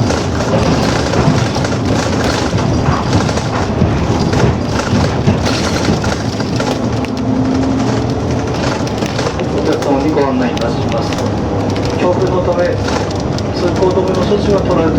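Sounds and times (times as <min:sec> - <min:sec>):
thumps and knocks: 0:00.0 - 0:14.4
bus engine and road rumble: 0:00.0 - 0:14.9.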